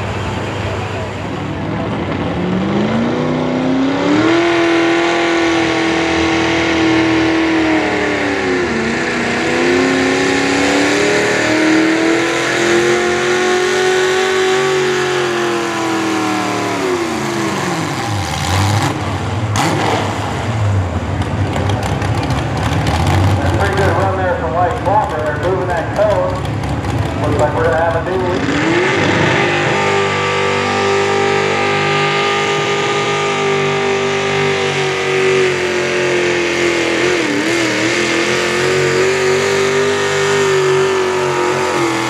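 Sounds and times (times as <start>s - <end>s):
tractor engine at high revs: 0.0s - 42.0s.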